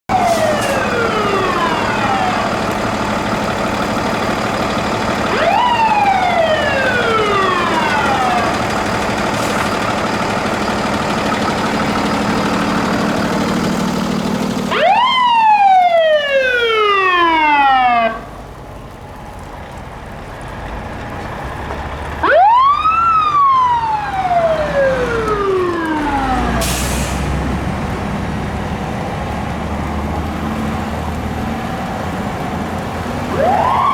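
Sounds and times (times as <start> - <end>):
engines running: 0.1 - 33.9
fire truck siren sweeps: 0.1 - 33.9.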